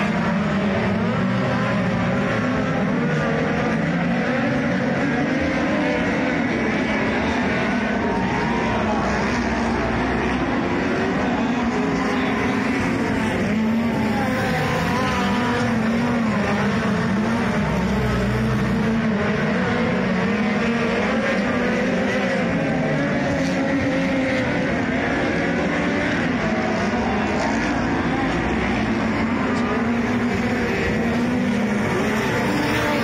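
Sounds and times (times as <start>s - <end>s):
race car engines droning: 0.0s - 33.0s.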